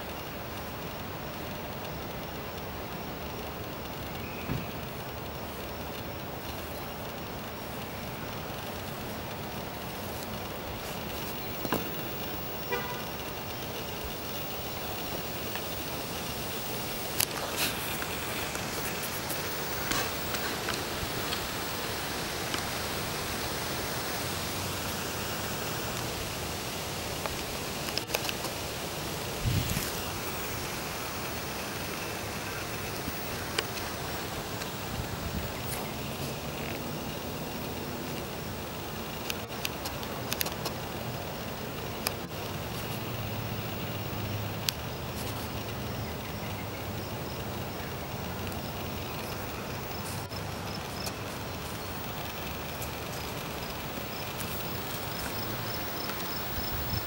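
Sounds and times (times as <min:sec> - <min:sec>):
faint clicks: 0:00.0 - 0:26.1, 0:27.2 - 0:28.7, 0:31.2 - 0:57.0
outdoor hiss: 0:00.0 - 0:57.0.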